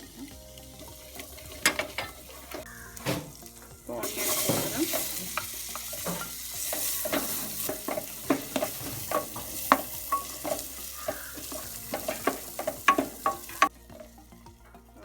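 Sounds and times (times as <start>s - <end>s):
onions sizzling in oil: 0.0s - 15.0s
spoon scraping and tapping pan: 0.2s - 3.2s, 4.0s - 14.2s.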